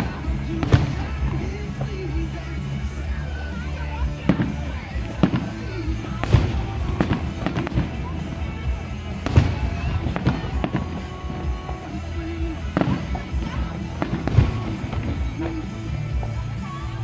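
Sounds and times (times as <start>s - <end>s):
fireworks booming and cracking: 0.0s - 17.0s
low rumbling echo: 0.0s - 17.0s.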